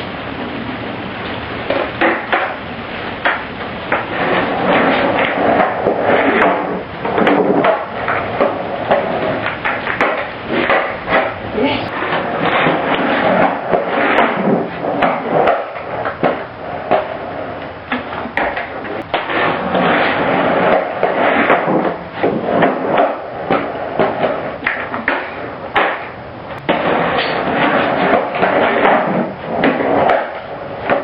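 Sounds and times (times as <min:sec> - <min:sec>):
skateboard wheels rolling: 0:00.0 - 0:31.0
skateboard clacks: 0:01.3 - 0:31.0.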